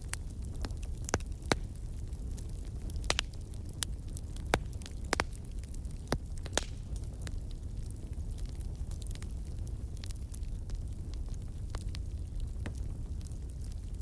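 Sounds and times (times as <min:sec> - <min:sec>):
low rumble of flames: 0:00.0 - 0:14.0
sharp pops and snaps of fire: 0:00.0 - 0:14.0
wind: 0:00.0 - 0:14.0
wood fire crackling: 0:00.0 - 0:14.0.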